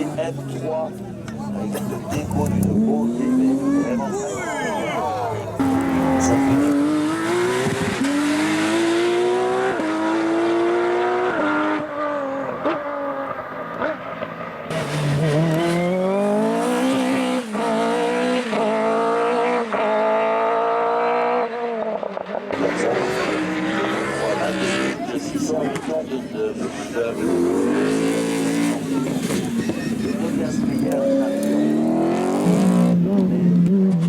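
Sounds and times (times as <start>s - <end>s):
race car engine accelerating: 5.0s - 34.0s.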